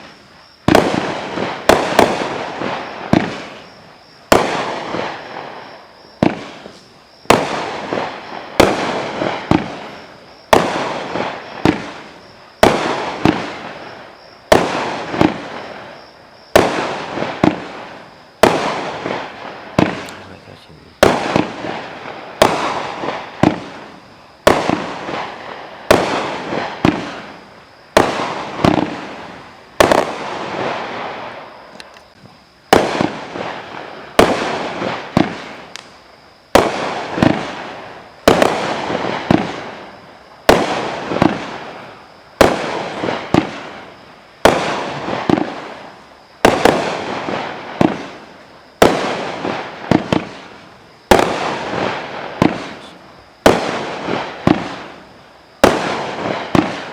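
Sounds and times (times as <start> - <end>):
fireworks bangs: 0.0 - 56.9.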